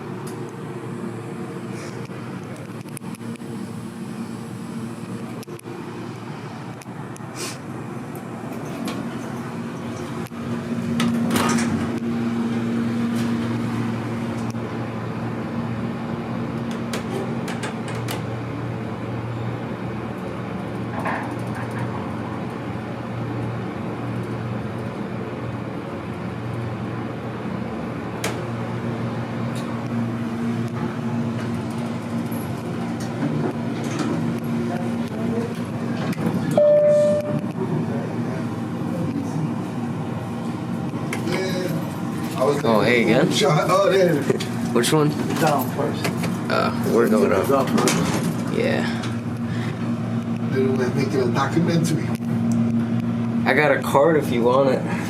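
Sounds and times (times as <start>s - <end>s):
elevator machinery humming: 0.0s - 55.0s.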